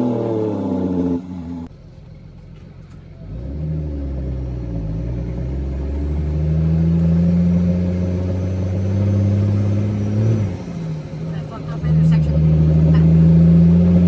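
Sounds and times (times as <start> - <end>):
diesel truck engine accelerating: 0.0 - 14.0.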